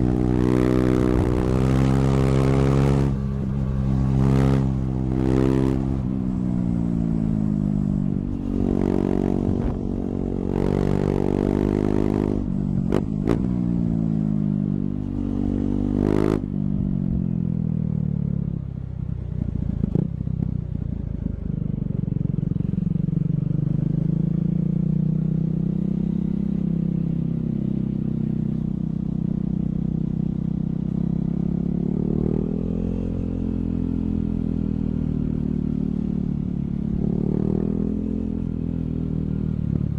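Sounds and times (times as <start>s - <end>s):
motorcycle engine revving: 0.0s - 16.9s, 21.2s - 39.9s.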